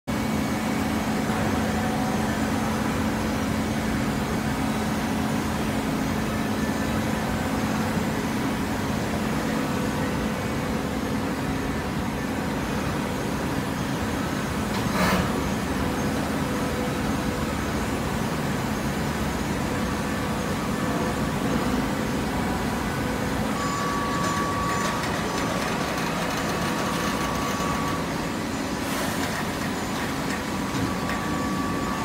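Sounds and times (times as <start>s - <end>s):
industrial baler droning: 0.1s - 32.0s.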